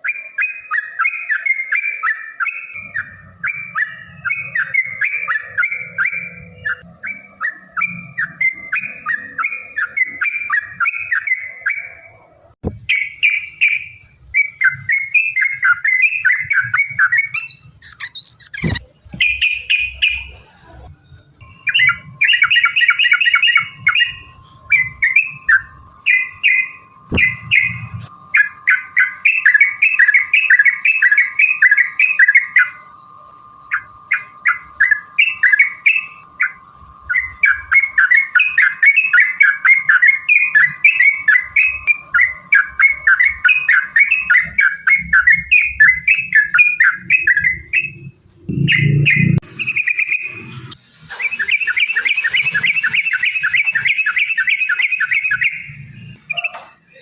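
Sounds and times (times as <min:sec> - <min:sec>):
bird chattering song: 0:00.0 - 0:12.2, 0:12.8 - 0:57.0
faint steady hum: 0:00.0 - 0:57.0.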